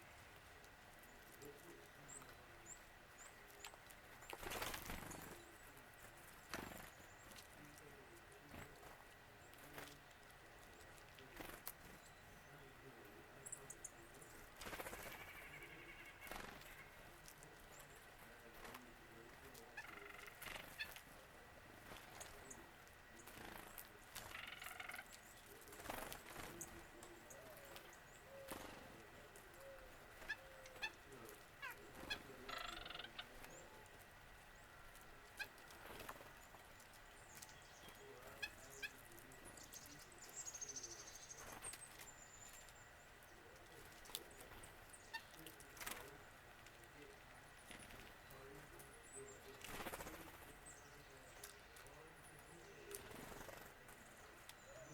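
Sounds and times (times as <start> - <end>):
faint bird calls: 0.0 - 54.9.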